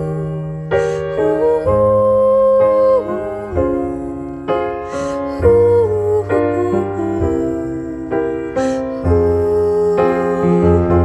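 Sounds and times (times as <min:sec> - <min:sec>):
piano playing slow chords: 0:00.0 - 0:11.0.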